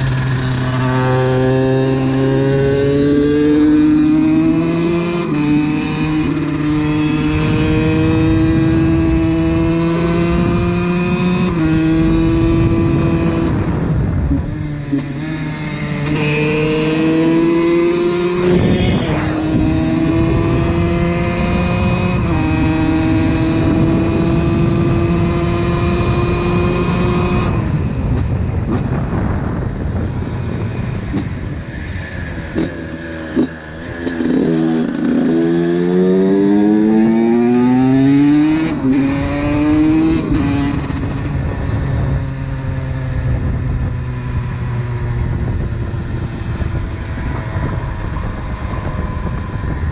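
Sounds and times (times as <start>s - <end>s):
two-stroke engine accelerating: 0.0s - 29.1s, 32.5s - 49.9s.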